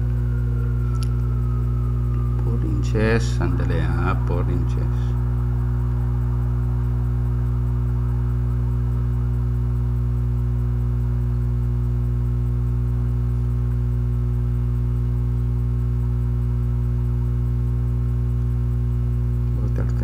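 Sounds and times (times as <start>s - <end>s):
low electrical mains hum: 0.0s - 20.0s.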